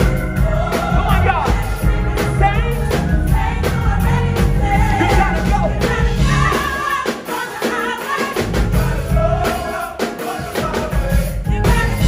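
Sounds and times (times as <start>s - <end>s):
gospel band playing: 0.0s - 12.0s
people singing: 0.0s - 12.0s.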